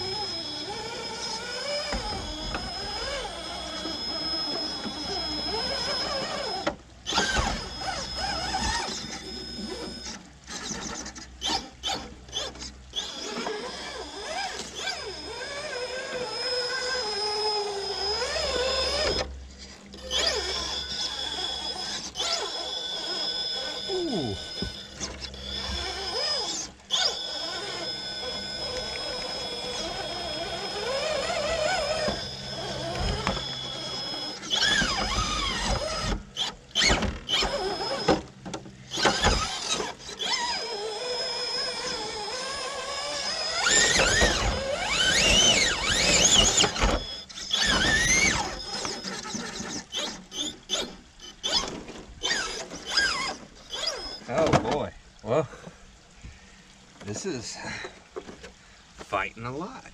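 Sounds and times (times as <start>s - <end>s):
electric motor whining: 0.0s - 54.5s.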